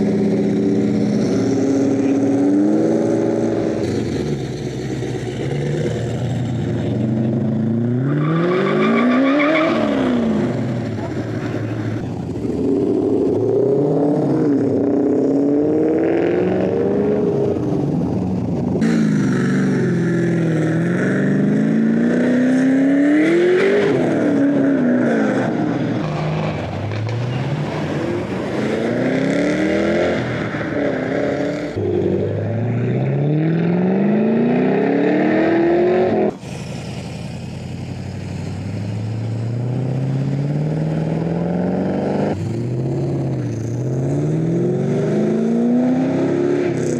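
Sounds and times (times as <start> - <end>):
performance car engines accelerating: 0.0 - 46.9.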